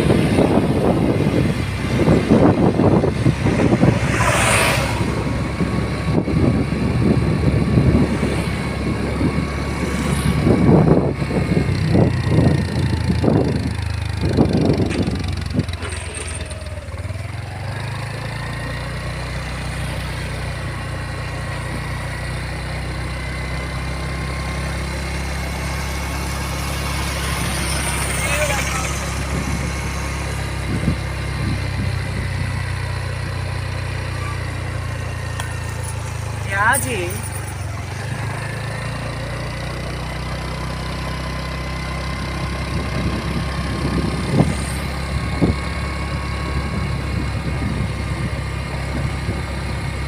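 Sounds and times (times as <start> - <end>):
motor vehicle running: 0.0 - 50.0.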